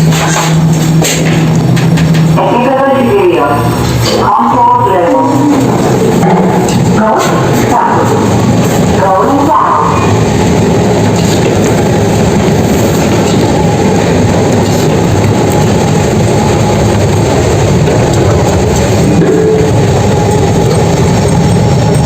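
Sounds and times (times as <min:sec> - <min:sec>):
loud mechanical rumble: 0:00.0 - 0:22.0.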